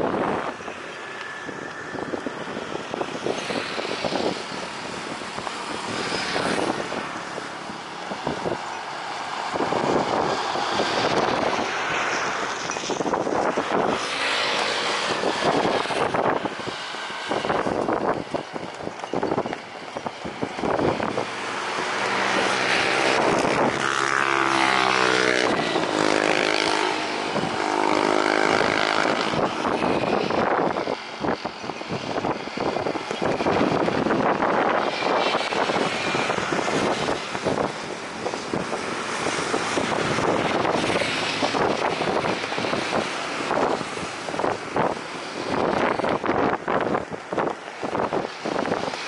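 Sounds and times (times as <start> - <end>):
jet airliner passing overhead: 0.0 - 49.0
wind buffeting microphone: 0.0 - 49.0.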